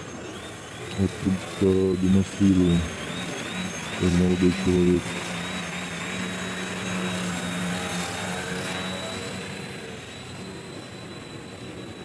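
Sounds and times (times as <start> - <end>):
model plane motor buzzing: 0.0 - 12.0.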